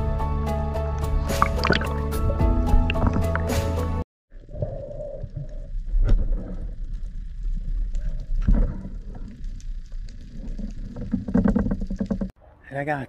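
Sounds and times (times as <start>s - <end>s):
water sloshing underwater: 1.1s - 12.3s.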